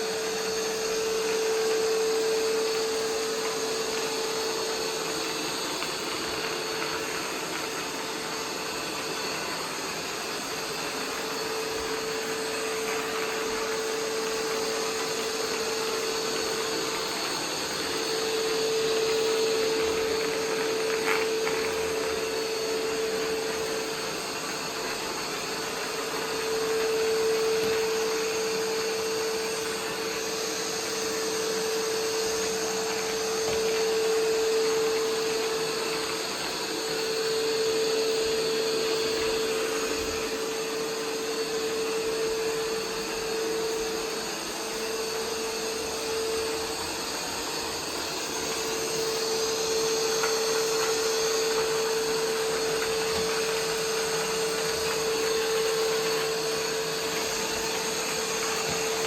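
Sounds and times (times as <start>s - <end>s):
robot vacuum motor hum: 0.0s - 59.0s.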